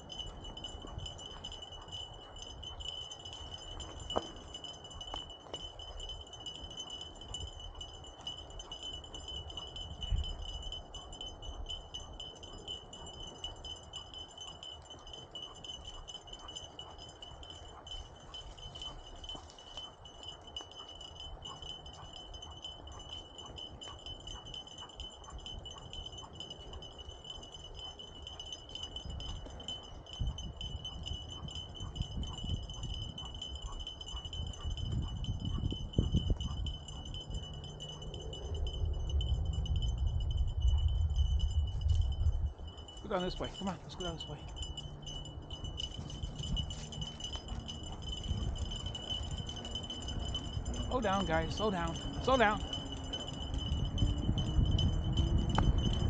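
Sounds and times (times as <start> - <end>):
high metallic ringing: 0.0 - 56.0.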